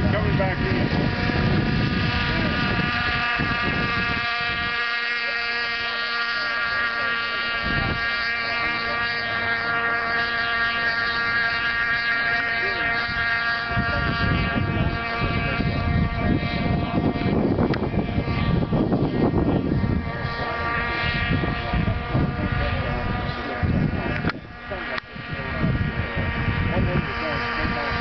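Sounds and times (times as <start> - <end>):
model boat motor whine: 0.0 - 28.0.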